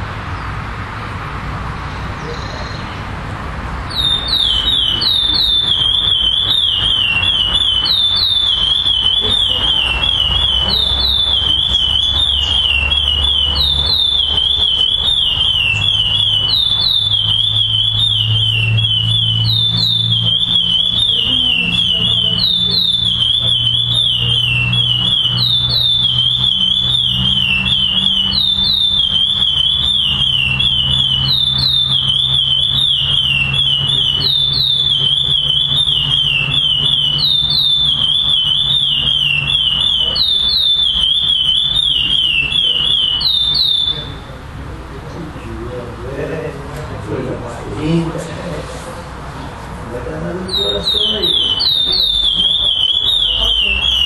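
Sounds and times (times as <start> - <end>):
finch singing whistled notes: 2.2 - 3.0, 3.9 - 44.2, 50.5 - 54.0.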